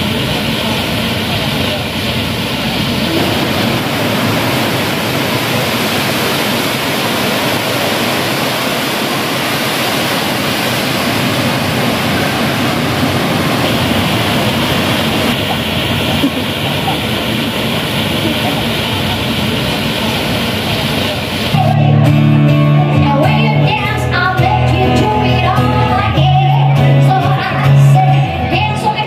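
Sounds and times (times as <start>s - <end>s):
falling water rushing: 0.0s - 29.0s.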